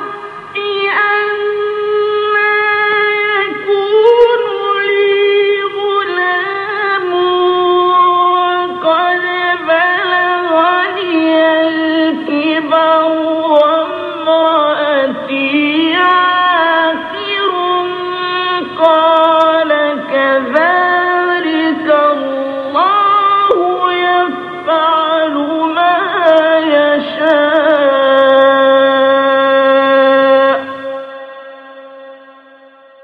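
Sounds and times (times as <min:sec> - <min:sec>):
man reciting melodically: 0:00.1 - 0:31.4.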